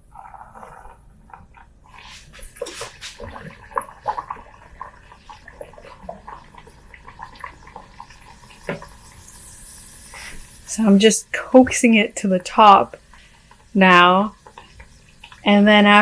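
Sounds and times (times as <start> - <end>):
dough frying in hot oil: 0.0 - 16.0.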